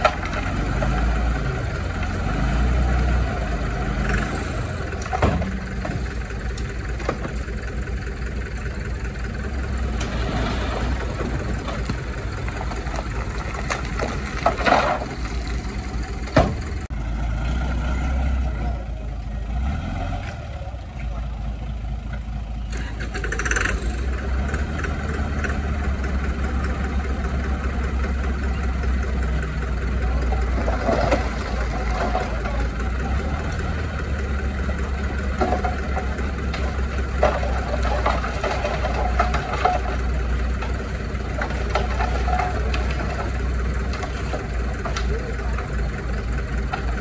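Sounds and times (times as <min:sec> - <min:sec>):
heavy diesel engine rumbling: 0:00.0 - 0:47.0.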